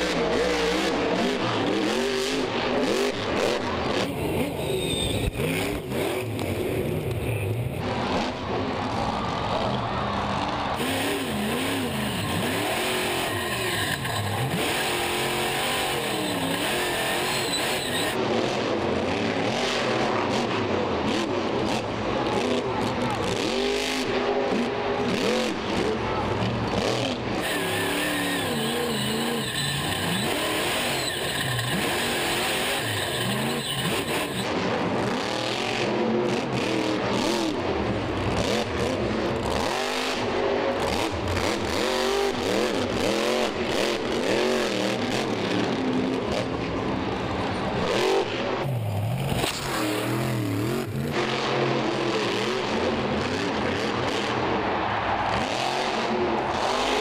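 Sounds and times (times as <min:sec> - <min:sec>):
truck engine revving: 0:00.0 - 0:08.7, 0:09.5 - 0:46.7, 0:47.8 - 0:54.5
stadium crowd noise: 0:00.0 - 0:57.0.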